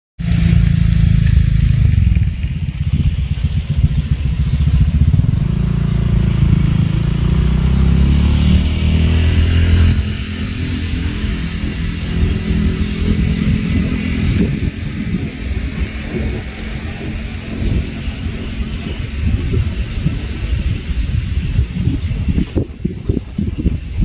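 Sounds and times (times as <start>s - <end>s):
engine low rumble: 0.2s - 24.0s.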